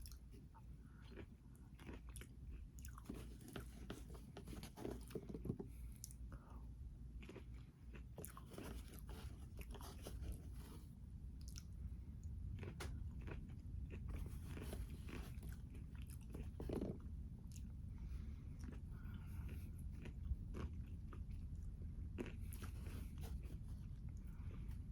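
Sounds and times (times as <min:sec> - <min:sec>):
person chewing crunchy food: 0:00.0 - 0:06.3, 0:07.1 - 0:10.6, 0:12.5 - 0:24.9.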